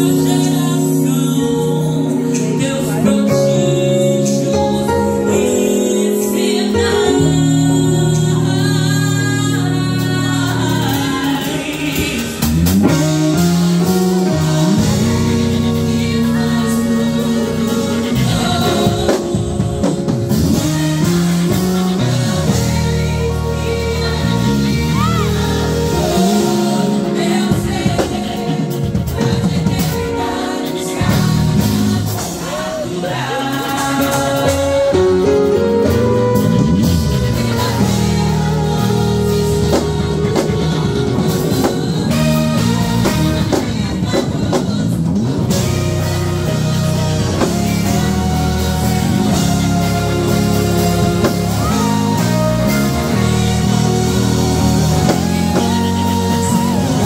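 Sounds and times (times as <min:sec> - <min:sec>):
drum kit: 0:00.0 - 0:57.0
electric bass: 0:00.0 - 0:57.0
electric guitar: 0:00.0 - 0:57.0
keyboard: 0:00.0 - 0:57.0
person singing: 0:00.0 - 0:57.0.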